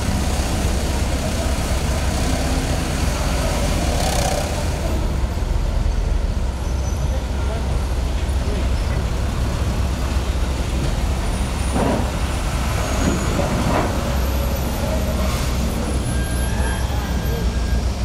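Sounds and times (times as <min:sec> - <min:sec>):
diesel engines rumbling: 0:00.0 - 0:18.0.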